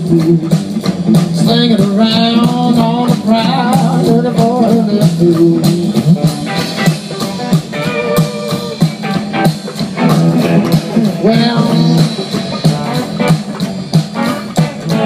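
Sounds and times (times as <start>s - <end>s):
blues-rock song: 0.0s - 15.0s.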